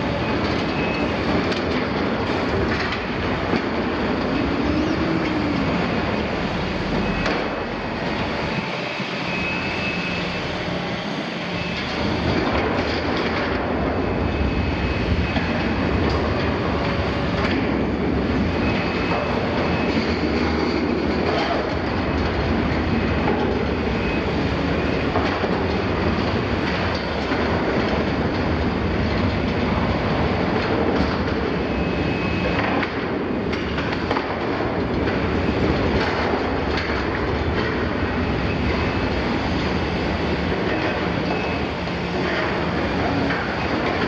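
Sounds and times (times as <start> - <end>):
excavator diesel engine and hydraulics: 0.0 - 44.0.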